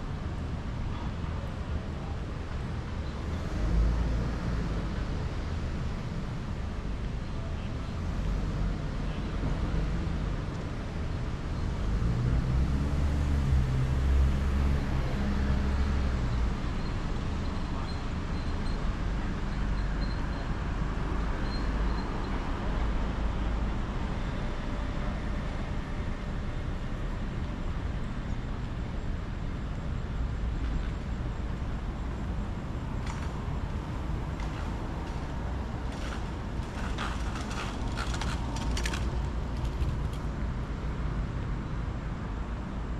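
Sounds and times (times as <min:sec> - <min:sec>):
traffic ambience: 0:00.0 - 0:42.9.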